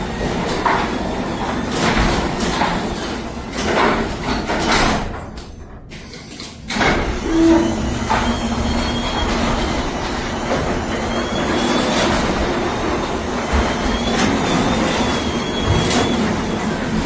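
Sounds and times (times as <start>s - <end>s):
garage door rolling rattle: 0.0s - 17.0s.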